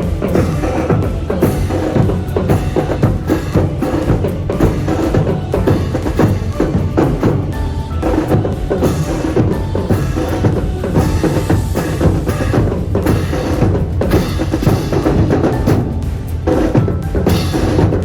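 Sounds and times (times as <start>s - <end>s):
bass and snare drums: 0.0s - 18.0s.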